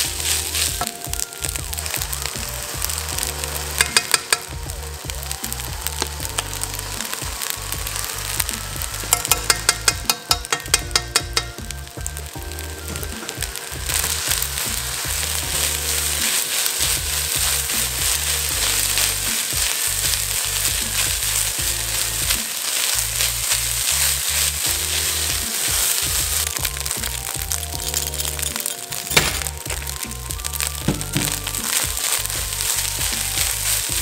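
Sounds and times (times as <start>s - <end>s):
fried rice sizzling in a wok: 0.0s - 34.0s
spatula stirring and tossing: 0.0s - 34.0s.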